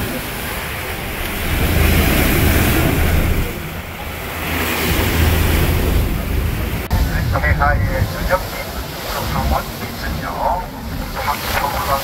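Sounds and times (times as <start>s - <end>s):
low rumble: 0.0s - 11.2s
boat wake churning: 0.0s - 12.0s
wind buffeting microphone: 0.0s - 12.0s.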